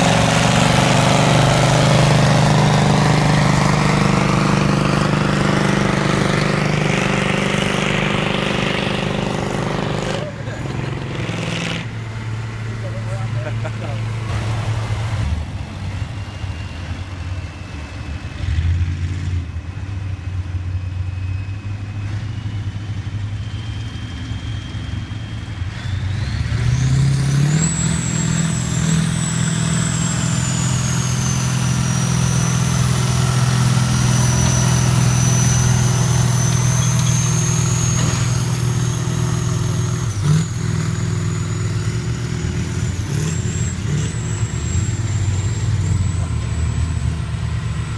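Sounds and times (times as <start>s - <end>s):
tractor engine revving: 0.0s - 19.7s, 21.6s - 47.9s
high engine whine: 0.0s - 47.9s.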